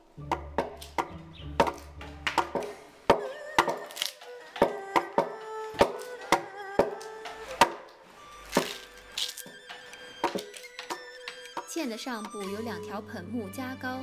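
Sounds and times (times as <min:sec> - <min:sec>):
axe chopping timber beam: 0:00.2 - 0:11.7.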